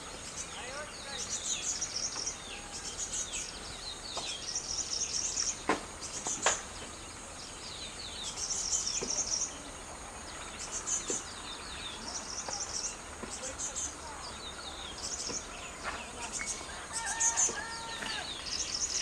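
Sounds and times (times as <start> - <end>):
insect-like hiss: 0.0 - 19.0
small birds chirping: 0.0 - 19.0.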